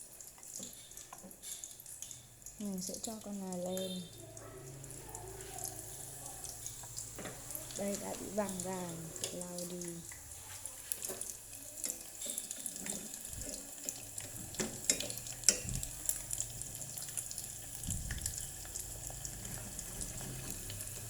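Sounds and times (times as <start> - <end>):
shrimp deep-frying in hot oil: 0.0 - 21.0.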